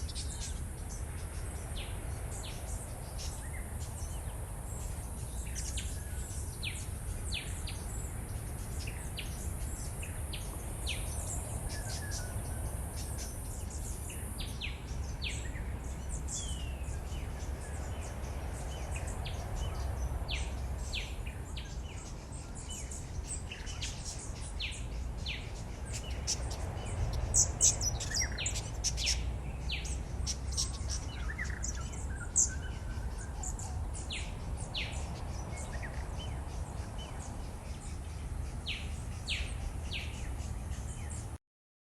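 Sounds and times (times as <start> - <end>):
birds chirping and calling: 0.0 - 41.3.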